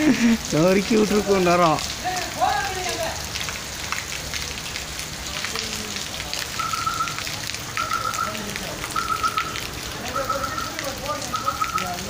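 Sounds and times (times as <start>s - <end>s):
rain on wet ground: 0.0s - 12.0s
raindrops ticking: 0.0s - 12.0s.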